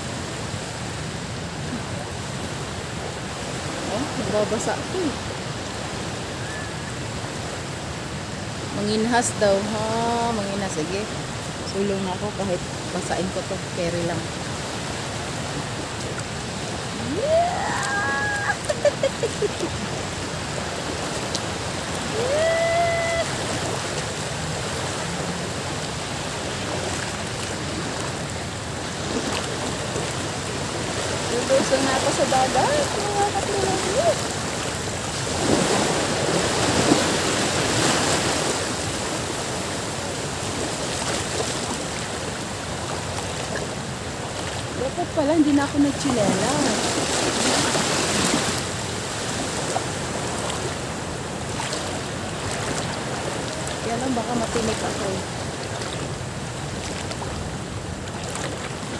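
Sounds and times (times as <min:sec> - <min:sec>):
small waves rushing: 0:00.0 - 0:58.9
sea water washing around legs: 0:09.5 - 0:58.9.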